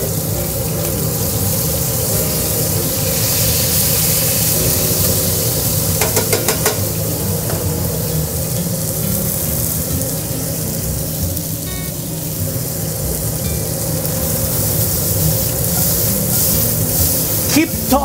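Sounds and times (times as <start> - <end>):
steak sizzling in pan: 0.0 - 18.0.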